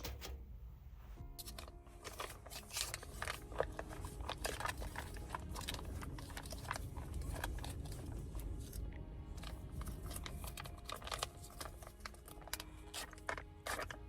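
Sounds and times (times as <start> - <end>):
low steady rumble: 0.0 - 14.0
clicks and rustles of handling: 1.2 - 14.0.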